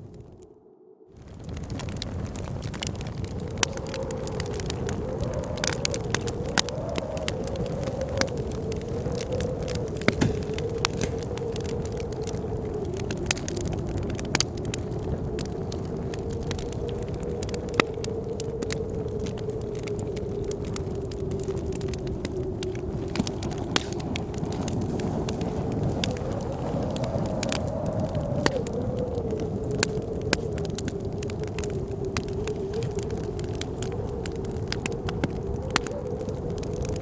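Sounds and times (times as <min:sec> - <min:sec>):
blizzard wind whistling: 0:00.0 - 0:37.0
wood fire crackling and popping: 0:01.1 - 0:37.0.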